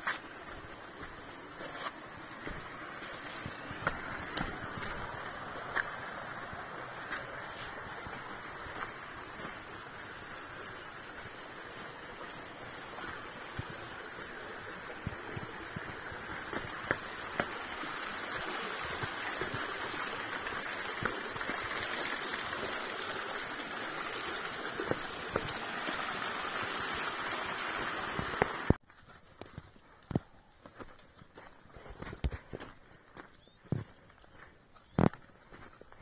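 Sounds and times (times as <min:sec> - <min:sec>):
footsteps on rock: 0:00.0 - 0:21.6, 0:28.2 - 0:36.0.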